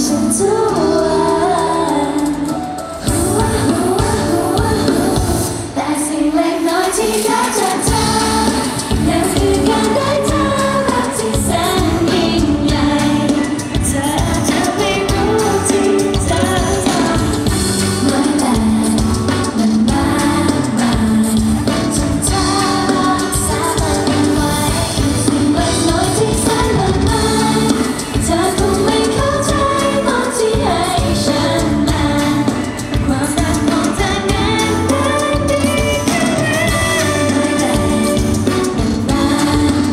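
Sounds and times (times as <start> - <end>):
live band with drums and guitars: 0.0 - 39.9
women singing into microphones: 0.0 - 39.9.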